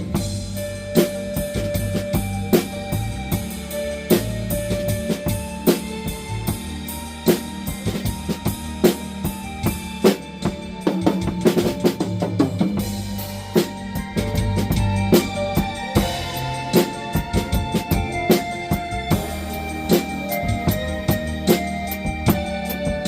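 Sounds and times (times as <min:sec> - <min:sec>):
blues backing track: 0:00.0 - 0:23.0
drum kit playing: 0:00.0 - 0:23.0.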